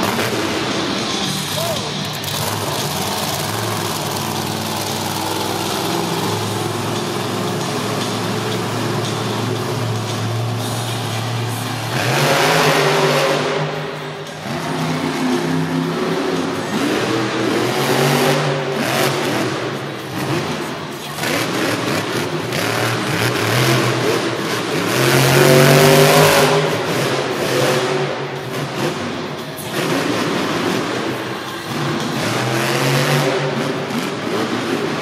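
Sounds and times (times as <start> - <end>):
truck engine revving hard: 0.0 - 35.0.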